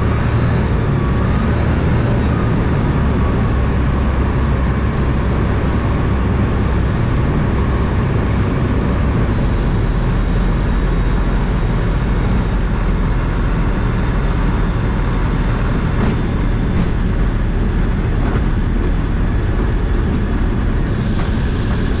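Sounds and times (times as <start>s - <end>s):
aircraft engine at low power: 0.0s - 22.0s.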